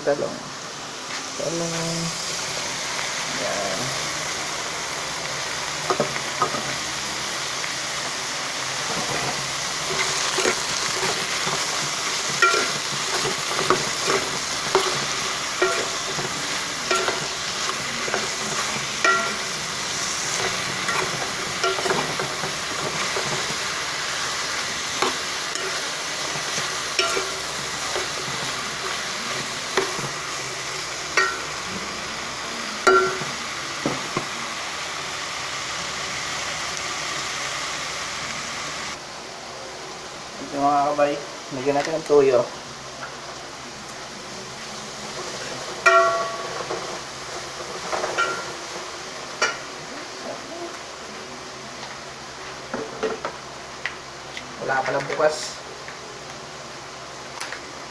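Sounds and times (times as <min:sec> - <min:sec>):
vegetables sizzling in hot oil: 0:00.0 - 0:57.9.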